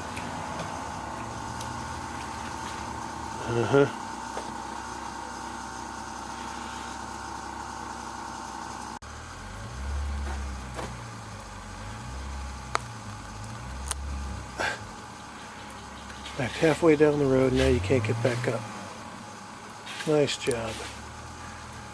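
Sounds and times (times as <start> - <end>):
car engine revving: 0.0 - 8.4, 9.0 - 15.0, 15.8 - 19.4.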